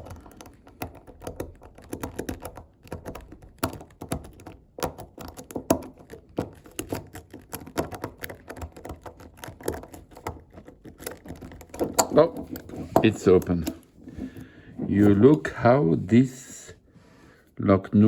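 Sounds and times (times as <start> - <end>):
lock pick clicking and scraping: 0.0 - 15.4.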